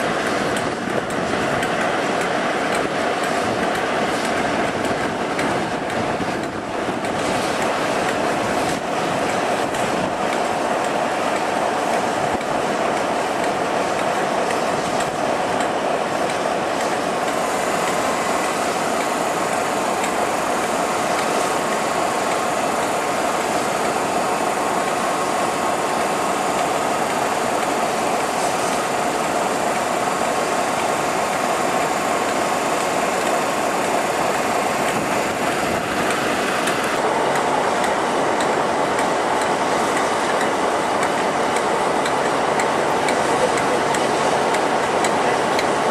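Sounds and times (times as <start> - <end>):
diesel engine drone: 0.0 - 45.9
train wheel and rail noise: 0.0 - 45.9.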